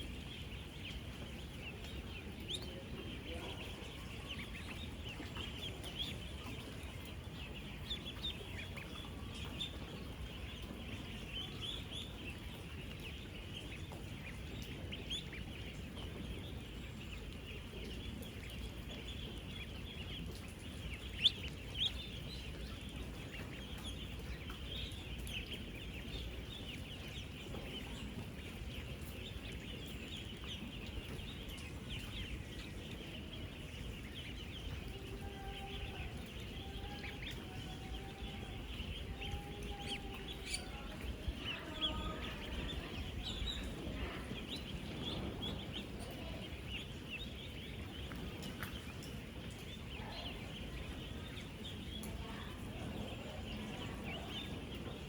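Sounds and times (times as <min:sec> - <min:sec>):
ducklings peeping: 0:00.0 - 0:55.0
low steady background noise: 0:00.0 - 0:55.0.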